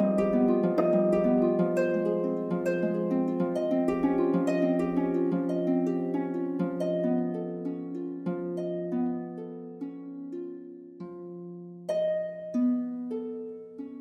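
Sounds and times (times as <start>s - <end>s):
plucked-string notes: 0.0s - 14.0s.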